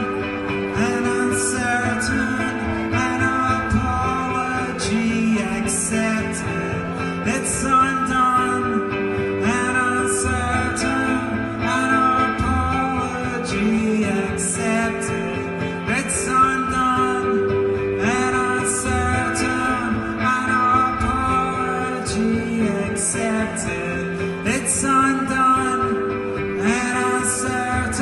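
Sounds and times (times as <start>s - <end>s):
electric guitar chords: 0.0s - 28.0s
man singing softly: 0.0s - 28.0s.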